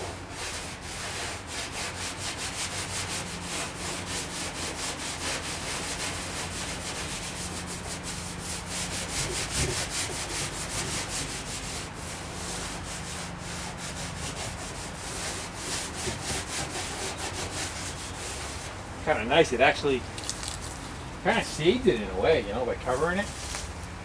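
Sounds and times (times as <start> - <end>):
sandpaper scrubbing metal: 0.0 - 20.0, 22.9 - 23.7.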